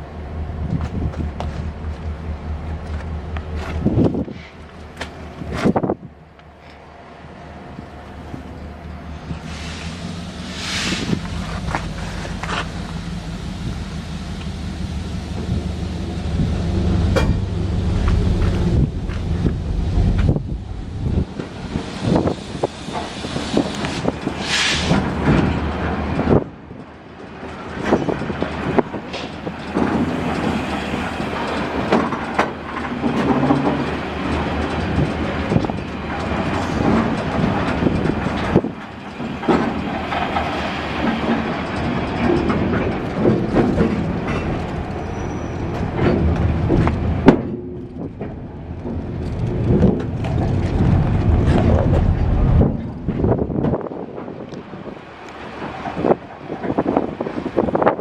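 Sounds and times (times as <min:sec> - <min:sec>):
wheels knocking and clattering: 0:00.0 - 0:06.8, 0:10.9 - 0:58.0
freight train rumble and rattle: 0:00.0 - 0:58.0.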